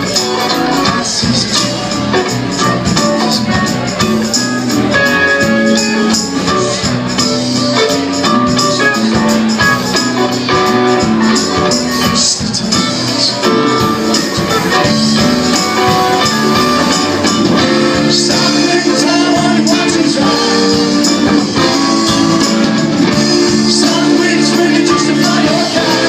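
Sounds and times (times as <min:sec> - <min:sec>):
live band playing loudly: 0:00.0 - 0:26.0.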